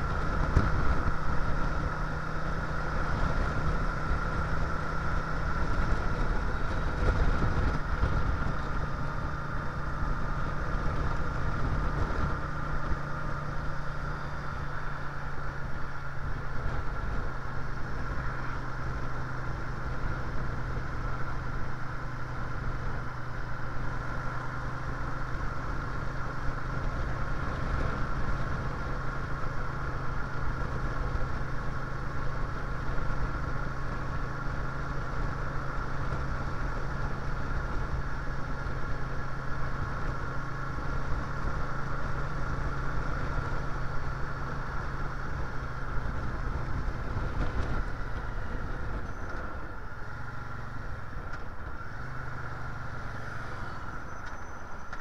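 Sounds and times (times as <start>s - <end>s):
wind rushing over microphone: 0.0s - 54.7s
motorcycle engine running: 0.0s - 55.0s.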